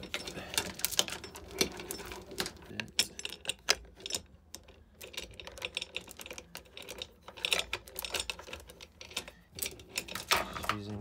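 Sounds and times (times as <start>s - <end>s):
anchor chain clinking: 0.0s - 11.0s.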